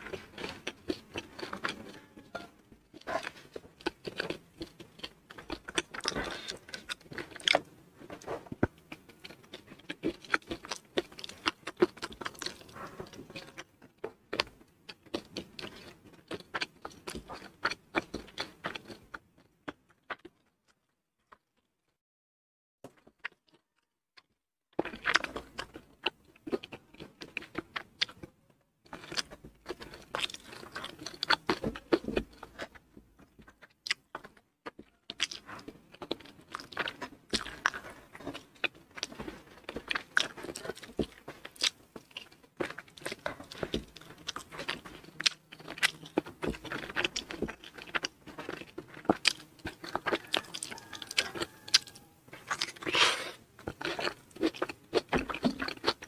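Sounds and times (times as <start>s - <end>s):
chewing and crunching food: 0.0s - 22.0s, 22.9s - 56.0s.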